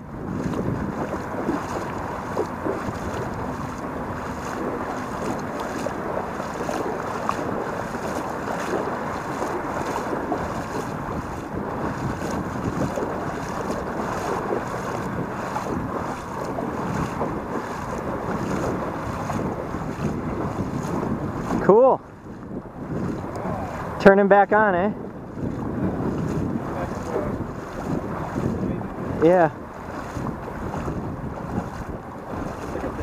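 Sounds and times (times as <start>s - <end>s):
water rushing over rocks: 0.0s - 22.0s, 25.7s - 33.0s
wind buffeting microphone: 0.0s - 33.0s.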